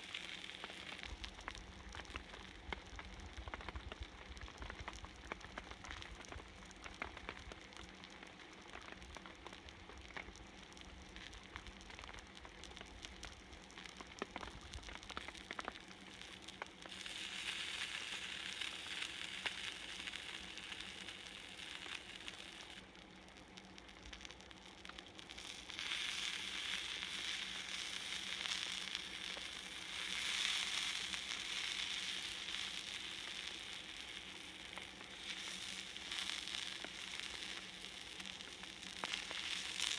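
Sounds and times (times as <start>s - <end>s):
fish sizzling on a griddle: 0.0s - 39.9s.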